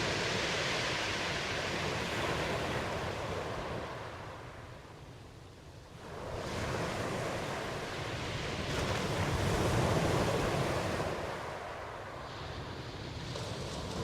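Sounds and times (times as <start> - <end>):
ocean waves washing onto shore: 0.0 - 14.0.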